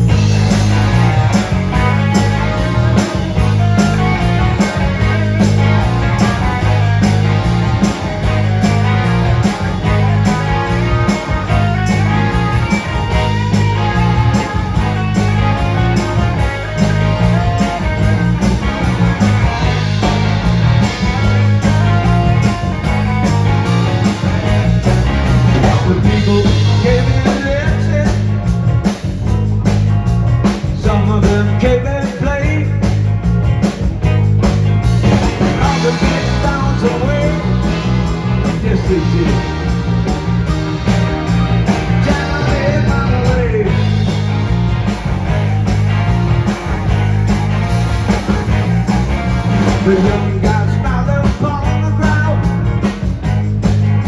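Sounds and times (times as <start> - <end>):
electric guitar: 0.0 - 54.0
live rock band playing: 0.0 - 54.0.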